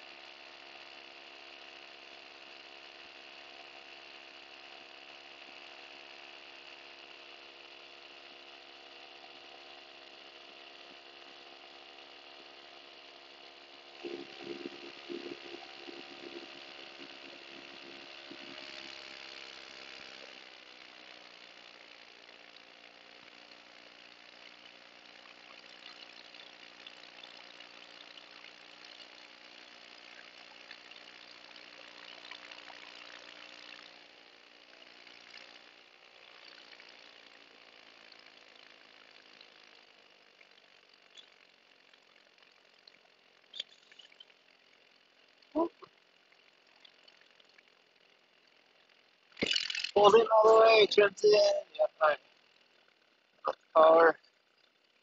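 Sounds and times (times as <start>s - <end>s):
paramotor engine running: 0.0s - 55.0s.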